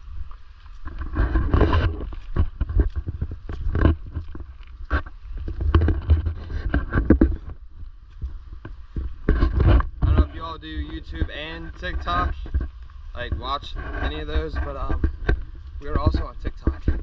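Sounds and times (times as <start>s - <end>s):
footsteps crunching on trail: 0.0s - 17.0s
low microphone rumble: 0.0s - 17.0s
rustling: 0.0s - 17.0s.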